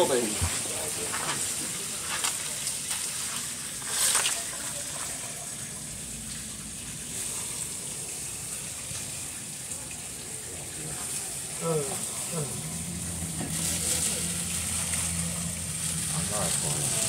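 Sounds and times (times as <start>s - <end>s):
ice water sloshing: 0.0s - 9.4s, 10.2s - 17.0s
splash: 0.0s - 17.0s.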